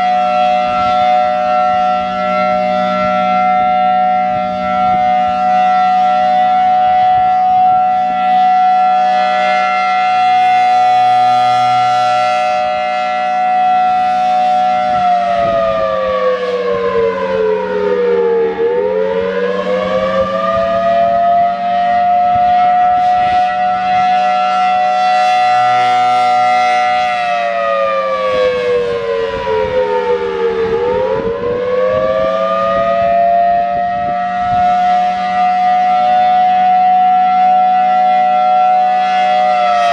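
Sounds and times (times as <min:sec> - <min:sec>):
two-tone warning siren wailing: 0:00.0 - 0:39.9.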